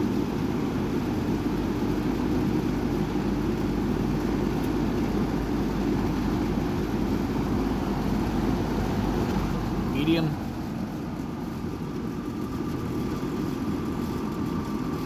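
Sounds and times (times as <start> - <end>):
box fan running: 0.0 - 15.0.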